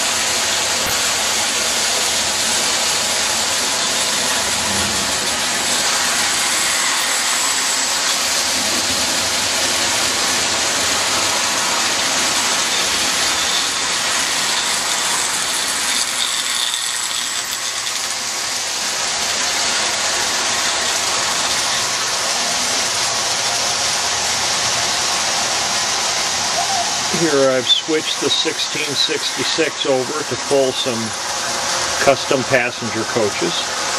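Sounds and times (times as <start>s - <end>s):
toy train rattling on track: 0.0s - 33.6s.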